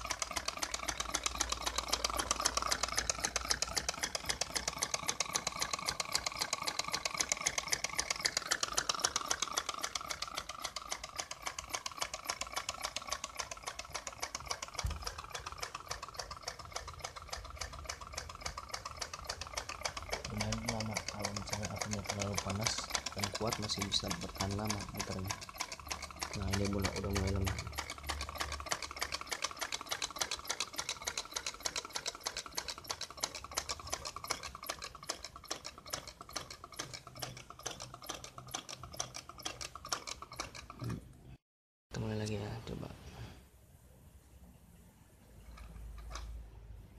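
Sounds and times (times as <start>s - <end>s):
small engine clicking rapidly: 0.0s - 41.2s, 45.2s - 46.9s.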